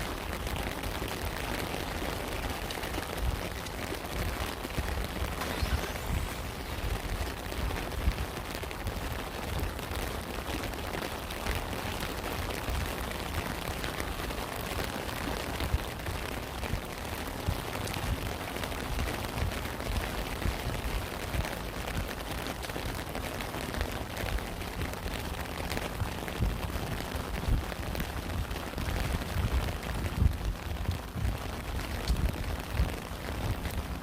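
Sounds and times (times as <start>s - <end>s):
rain hissing: 0.0s - 34.0s
raindrops ticking and thudding: 0.0s - 34.0s.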